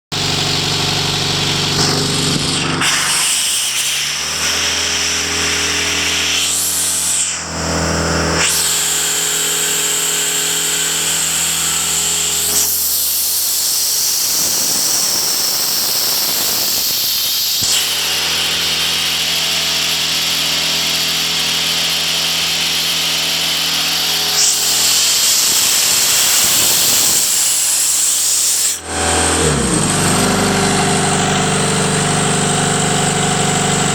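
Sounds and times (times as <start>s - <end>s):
air compressor engine running: 0.1s - 33.9s
air hissing loudly: 0.1s - 33.9s.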